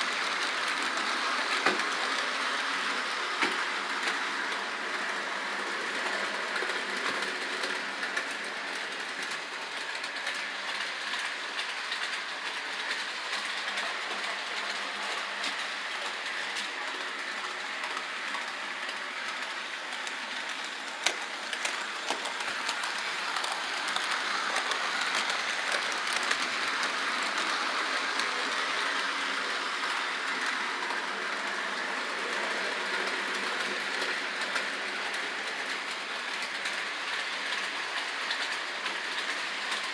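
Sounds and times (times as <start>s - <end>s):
model train wheels rattling: 6.2s - 39.9s.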